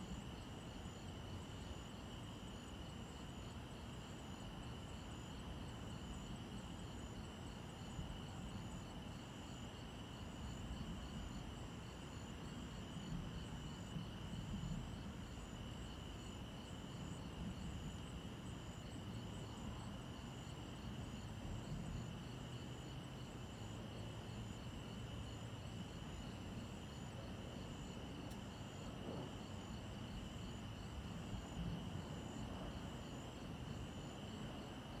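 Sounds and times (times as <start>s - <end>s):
crickets trilling: 0.1s - 35.0s.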